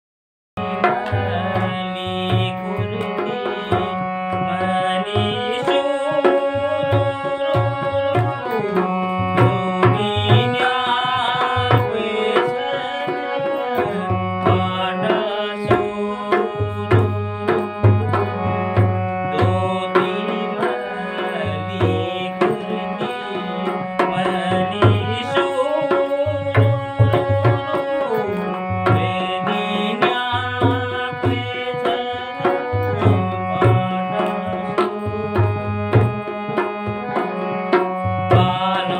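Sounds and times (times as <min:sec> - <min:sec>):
harmonium playing folk tune: 0:00.6 - 0:38.9
hand drum rhythm: 0:00.8 - 0:38.9.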